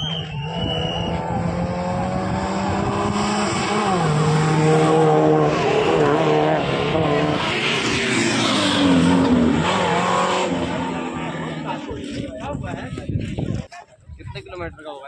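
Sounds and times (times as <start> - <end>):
rally car engine at high revs: 0.0 - 12.3.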